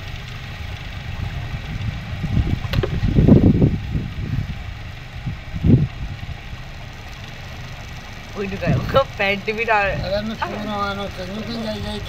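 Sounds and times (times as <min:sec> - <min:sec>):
low rumbling bursts: 0:00.0 - 0:12.0
potter's wheel humming: 0:00.0 - 0:12.0.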